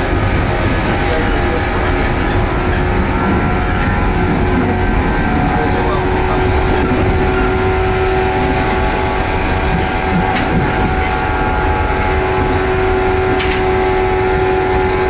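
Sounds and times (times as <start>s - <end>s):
steady humming tones: 0.0s - 15.0s
train wheels rumbling: 0.0s - 15.0s.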